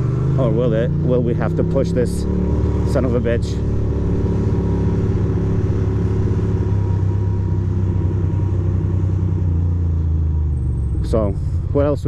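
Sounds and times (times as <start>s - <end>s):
motorcycle engine low rumble: 0.0s - 12.0s.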